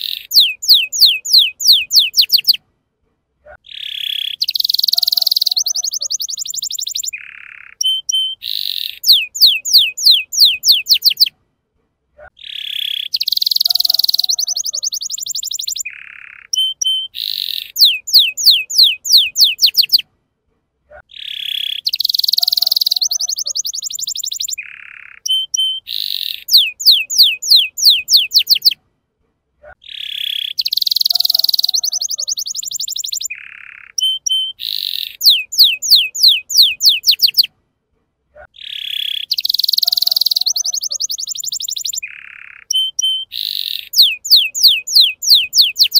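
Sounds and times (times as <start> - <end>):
canary singing: 0.0 - 2.6, 3.6 - 11.4, 12.4 - 20.1, 20.9 - 28.8, 29.6 - 37.5, 38.4 - 45.9.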